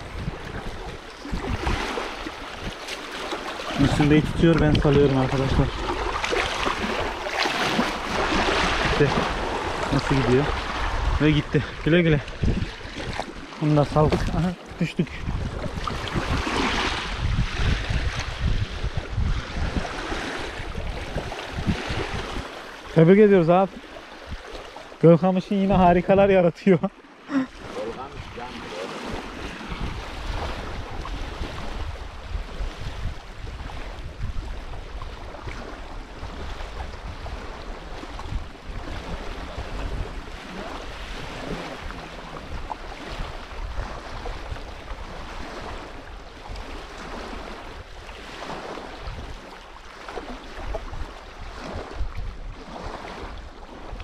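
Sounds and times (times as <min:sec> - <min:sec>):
wind on microphone: 0:00.0 - 0:24.7, 0:27.5 - 0:54.0.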